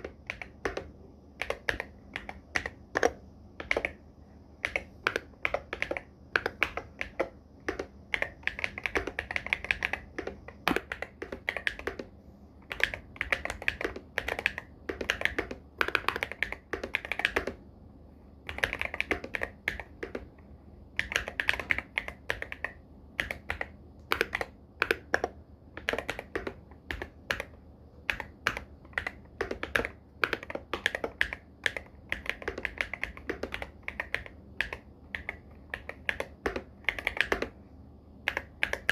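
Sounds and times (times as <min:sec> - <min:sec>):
mechanical keyboard typing: 0:00.0 - 0:04.0, 0:04.6 - 0:17.6, 0:18.4 - 0:37.6, 0:38.2 - 0:38.9.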